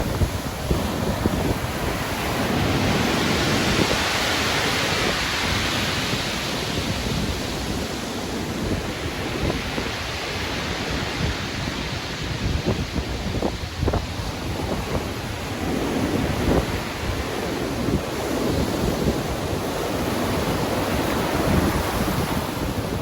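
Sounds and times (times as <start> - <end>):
heavy ocean waves surging: 0.0 - 23.0.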